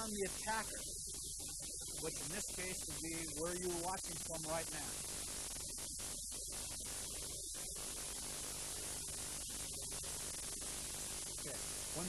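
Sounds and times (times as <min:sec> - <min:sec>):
low mains hum: 0:00.0 - 0:12.0
tape hiss: 0:00.0 - 0:12.0.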